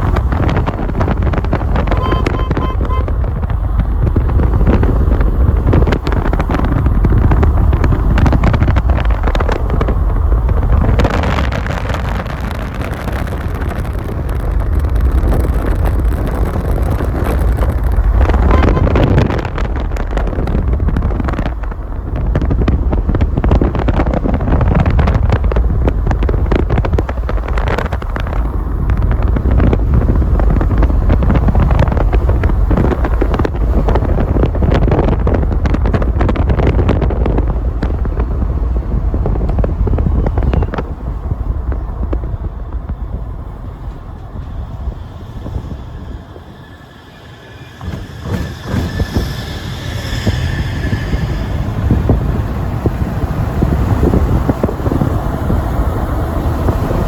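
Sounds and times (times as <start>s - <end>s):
vehicle engine rumble: 0.0s - 57.0s
wind buffeting microphone: 0.0s - 57.0s.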